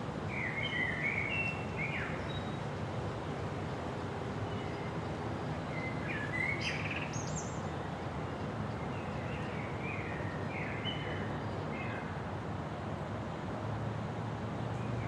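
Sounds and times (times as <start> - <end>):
low rush of wind: 0.0 - 15.0
songbirds chirping: 0.0 - 15.0.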